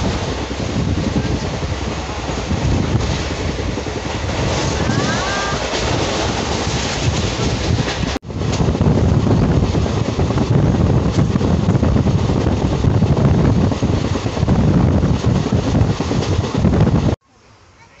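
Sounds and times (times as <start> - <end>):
train rumble from inside coach: 0.0 - 17.2
wind buffeting microphone: 0.0 - 17.2.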